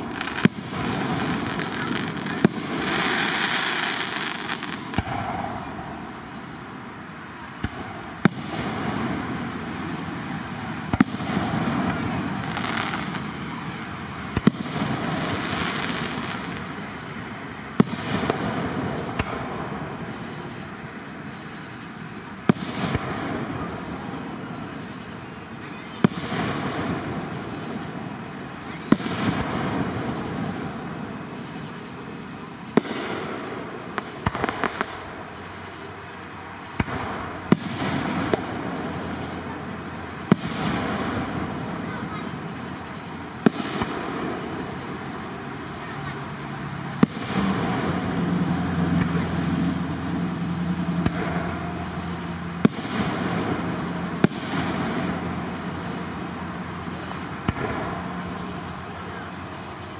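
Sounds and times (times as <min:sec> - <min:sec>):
fireworks hiss: 0:00.0 - 0:59.9.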